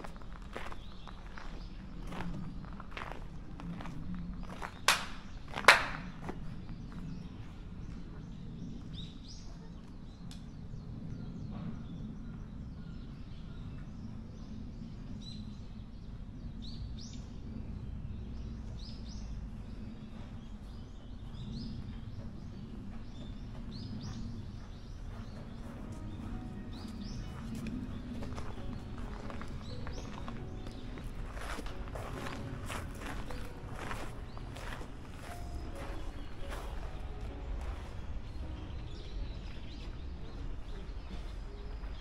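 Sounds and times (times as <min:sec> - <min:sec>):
outdoor background noise: 0:00.0 - 0:42.0
small birds chirping: 0:00.0 - 0:42.0.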